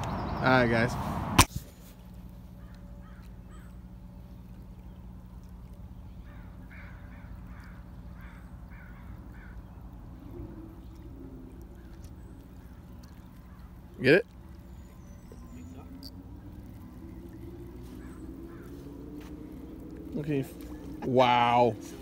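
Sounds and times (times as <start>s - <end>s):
steady low hum: 0.0s - 22.0s
bird calling: 2.2s - 22.0s.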